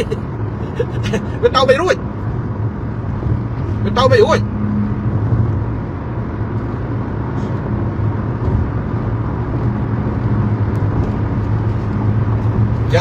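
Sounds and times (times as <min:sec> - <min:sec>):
car engine: 0:00.0 - 0:13.0
road noise: 0:00.0 - 0:13.0.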